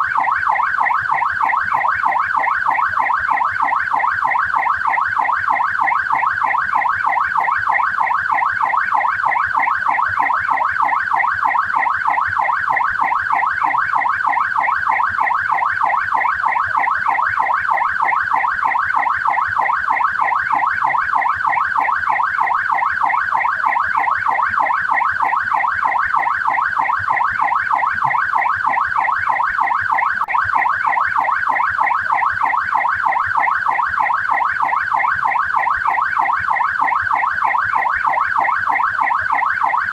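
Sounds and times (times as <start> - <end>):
police siren electronic sweep: 0.0 - 39.9.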